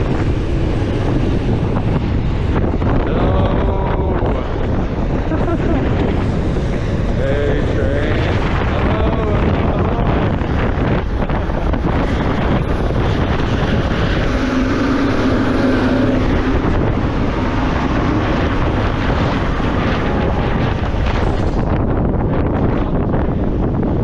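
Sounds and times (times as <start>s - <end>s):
strong wind on microphone: 0.0s - 24.0s.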